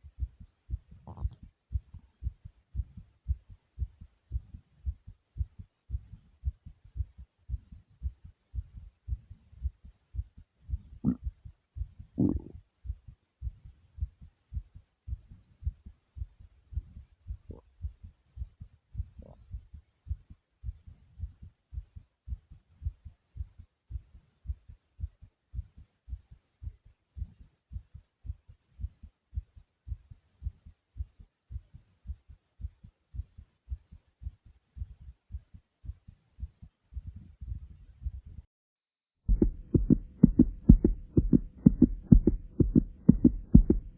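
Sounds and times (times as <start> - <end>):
heart beating rapidly: 0.0 - 38.5, 39.3 - 43.9.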